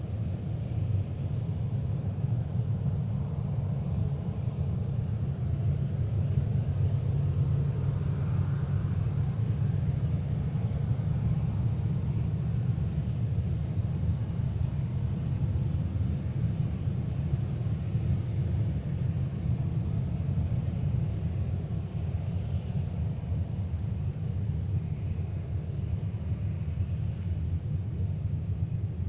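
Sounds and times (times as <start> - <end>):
jet engines rumbling: 0.0 - 29.0.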